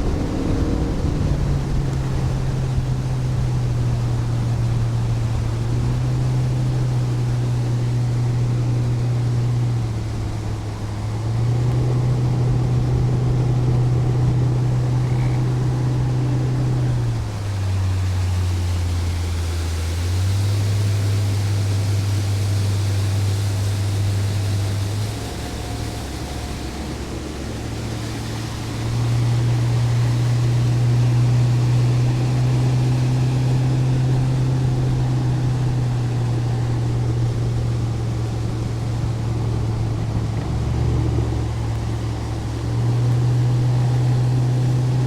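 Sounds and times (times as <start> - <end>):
boat motor running: 0.0 - 45.0
rushing water: 0.0 - 45.0
wind: 0.0 - 45.0.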